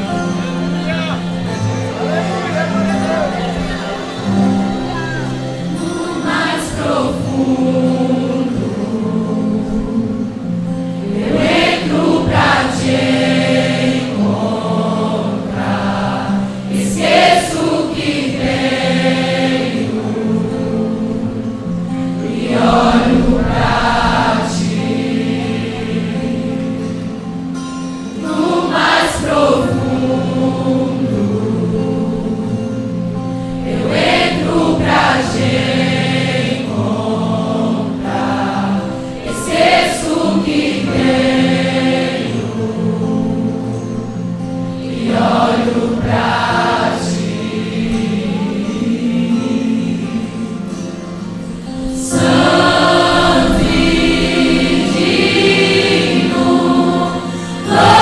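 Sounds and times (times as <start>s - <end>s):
choir singing gospel song: 0.0s - 58.0s.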